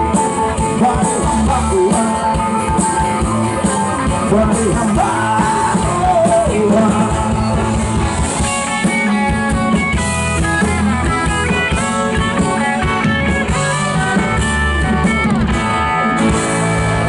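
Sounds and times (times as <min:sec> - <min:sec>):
lead guitar line: 0:00.0 - 0:17.0
live rock band playing: 0:00.0 - 0:17.0.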